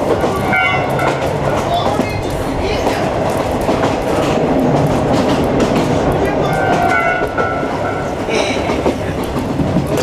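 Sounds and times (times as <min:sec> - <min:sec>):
train wheels clattering over rail joints: 0:00.0 - 0:10.0.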